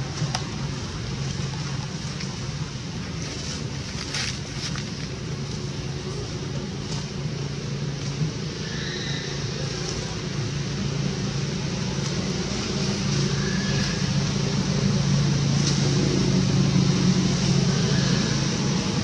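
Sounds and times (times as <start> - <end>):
traffic engine hum: 0.0 - 19.0.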